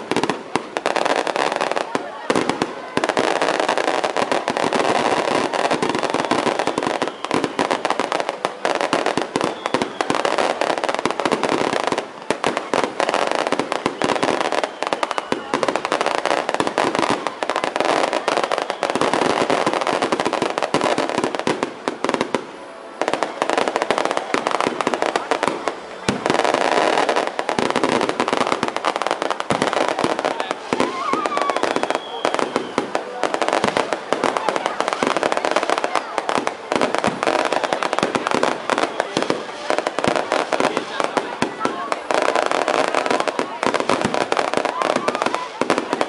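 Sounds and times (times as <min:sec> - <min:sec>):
firecrackers crackling: 0:00.0 - 0:46.0.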